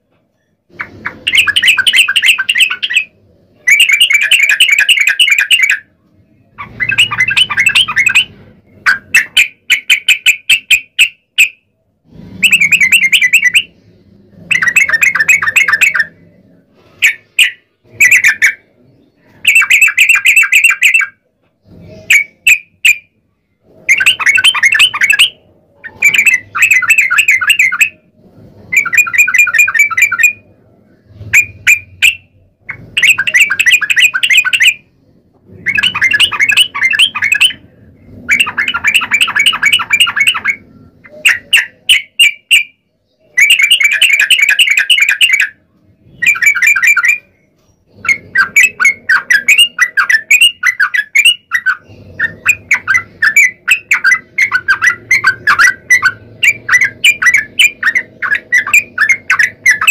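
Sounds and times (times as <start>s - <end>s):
bulbul rapid rolling chatter: 0.7s - 59.9s.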